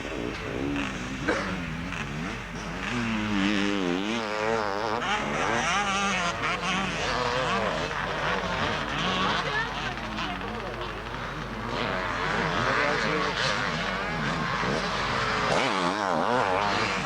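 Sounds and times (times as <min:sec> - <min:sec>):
motocross motorcycle engines revving: 0:00.0 - 0:17.0.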